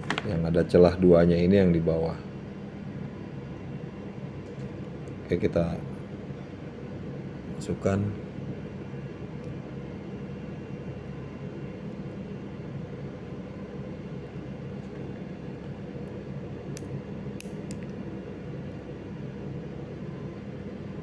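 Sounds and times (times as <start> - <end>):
machine hum and hiss: 0.0 - 21.0.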